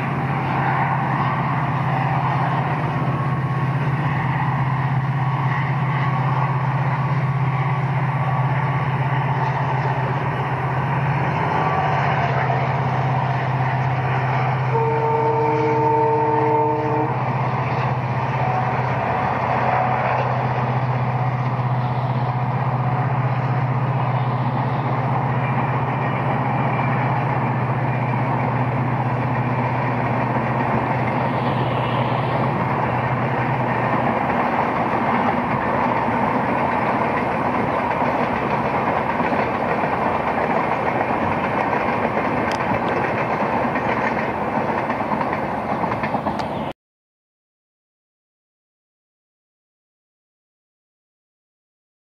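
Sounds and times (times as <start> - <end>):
train wheels rumbling on rails: 0.0 - 46.7.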